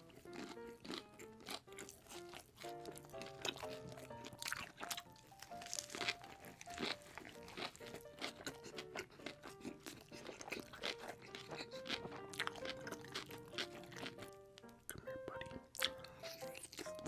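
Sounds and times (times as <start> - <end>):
crunchy bite into bread: 0.0 - 14.2
crackly chewing: 0.0 - 17.0
soft lo-fi music: 0.0 - 17.0.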